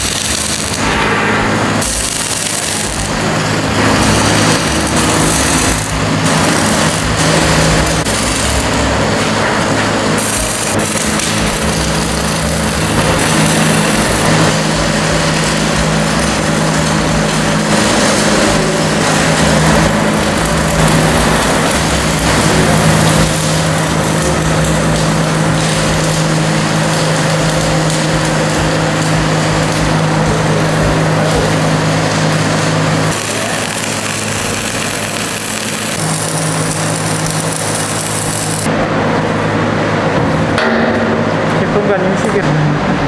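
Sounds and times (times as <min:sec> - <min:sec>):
low machine drone: 0:00.0 - 0:43.0.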